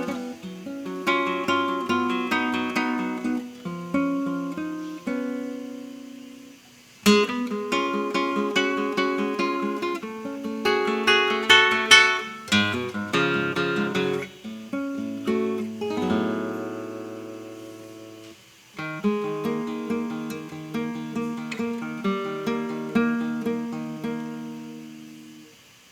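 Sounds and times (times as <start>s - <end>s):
classical guitar playing: 0.0s - 25.6s.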